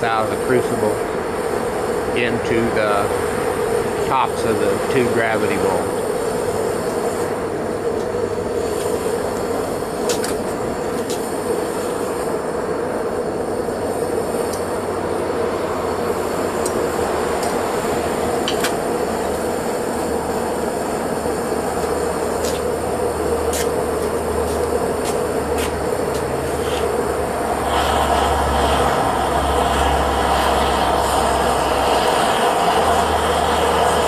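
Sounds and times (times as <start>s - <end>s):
gas burner roaring: 0.0s - 34.0s.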